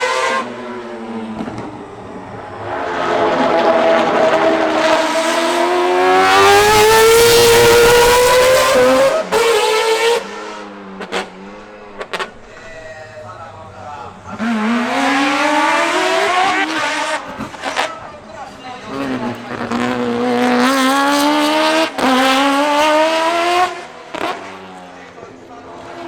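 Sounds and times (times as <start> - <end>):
rotary engine revving: 0.0 - 18.2, 18.8 - 24.8.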